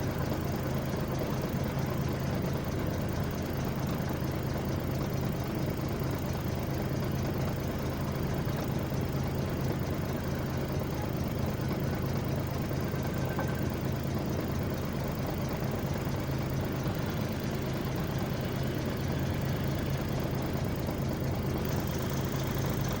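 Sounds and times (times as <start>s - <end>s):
heavy vehicle engine running: 0.0s - 23.0s.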